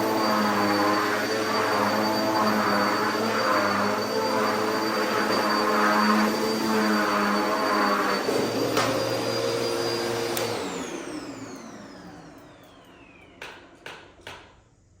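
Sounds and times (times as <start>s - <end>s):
vacuum cleaner motor spinning down: 0.0s - 13.8s.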